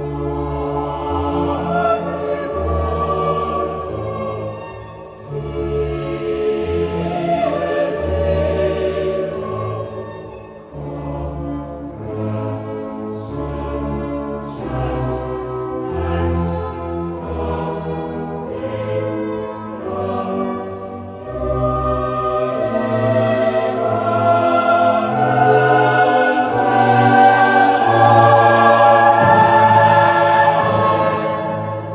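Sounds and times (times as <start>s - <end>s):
choir singing sustained notes: 0.0s - 31.9s.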